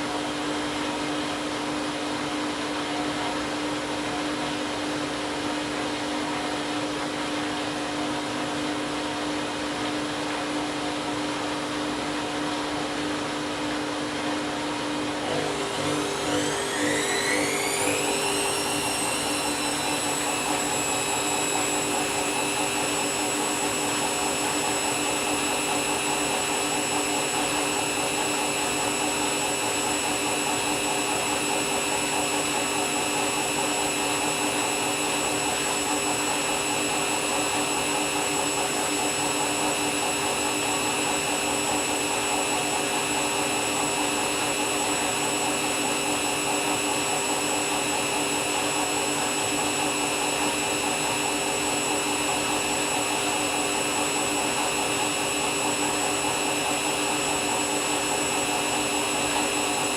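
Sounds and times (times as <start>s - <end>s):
washing machine spinning with whine: 0.0s - 59.9s.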